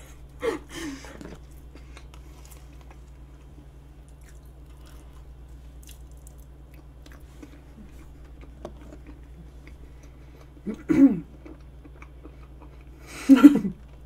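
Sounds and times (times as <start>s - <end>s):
steady low hum: 0.0s - 14.0s
soft chewing: 1.0s - 13.1s.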